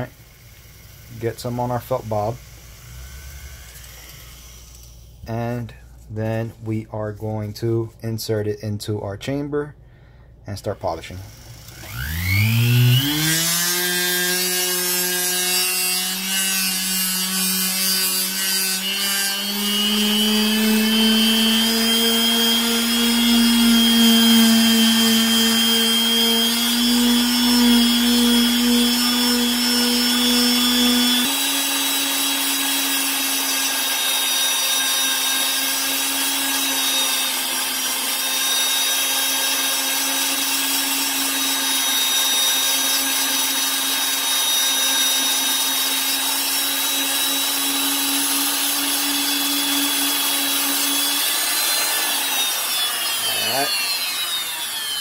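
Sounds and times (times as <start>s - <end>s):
rotary tool motor whine: 0.0s - 5.2s, 11.2s - 55.0s.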